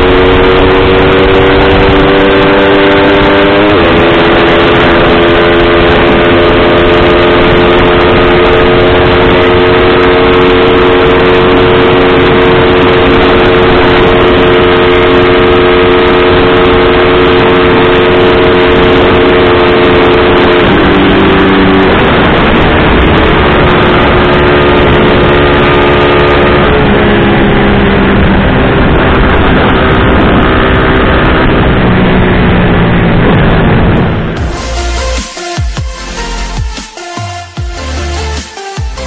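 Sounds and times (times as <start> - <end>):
wind noise: 0.0 - 34.5
motorcycle engine running: 0.0 - 39.0.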